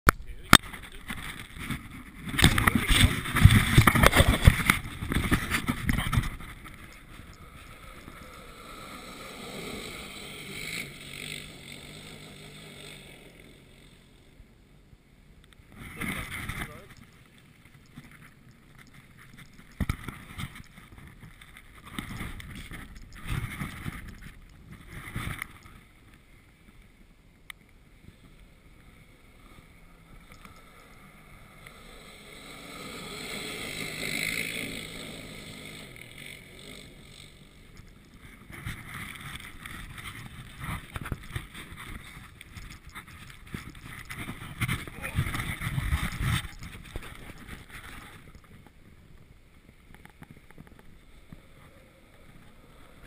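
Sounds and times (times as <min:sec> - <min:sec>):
distant quad bike engine: 0:00.1 - 0:26.6, 0:27.8 - 0:49.0, 0:49.8 - 0:53.0.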